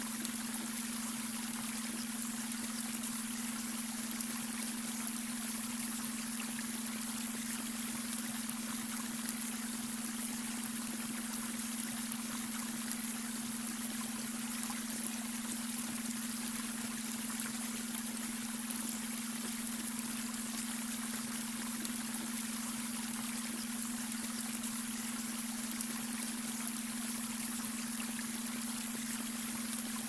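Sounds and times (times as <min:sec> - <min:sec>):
brook trickling over stones: 0:00.0 - 0:30.0.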